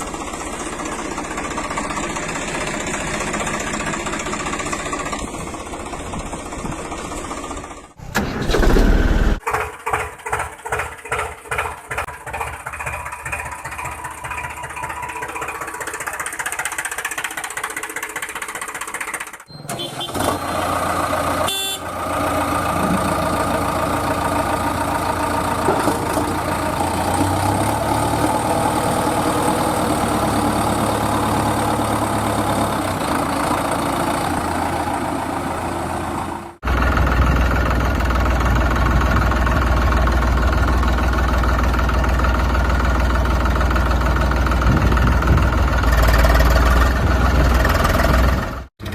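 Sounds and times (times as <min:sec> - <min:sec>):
steady engine hum: 0:00.0 - 0:48.9
tractor engine chugging: 0:00.0 - 0:48.9.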